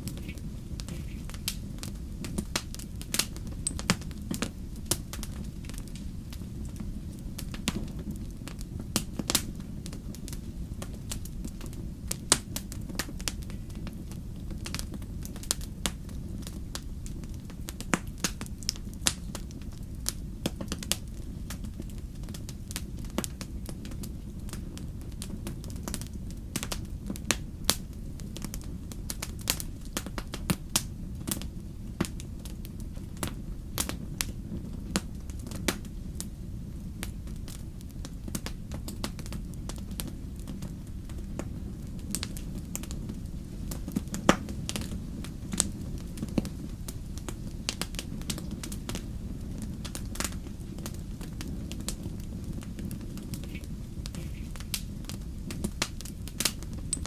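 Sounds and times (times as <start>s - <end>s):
campfire pops and snaps: 0.0s - 36.3s, 36.9s - 57.0s
low fire rumble: 0.0s - 57.0s.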